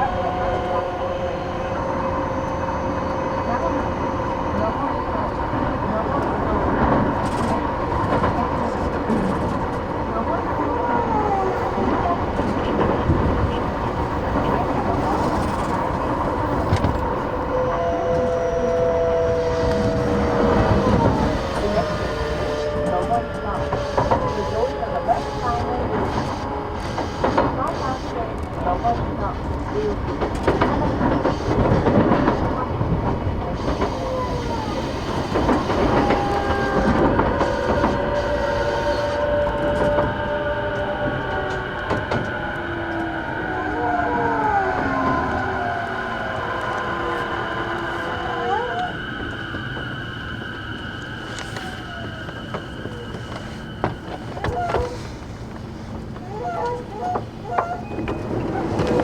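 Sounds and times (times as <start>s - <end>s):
traction motor whine: 0.0s - 56.3s
train rail and wheel rumble: 0.0s - 59.0s.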